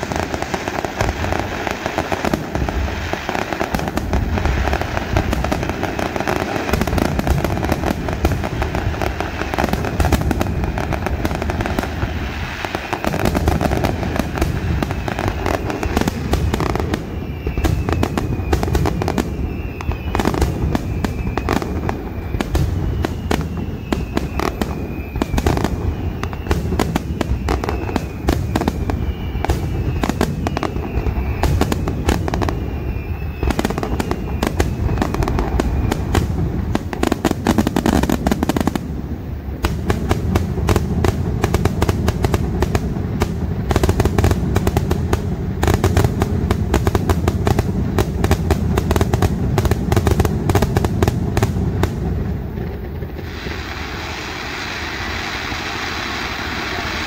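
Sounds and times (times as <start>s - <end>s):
fireworks bangs and crackling: 0.0s - 57.0s
whistling fireworks: 0.0s - 57.0s.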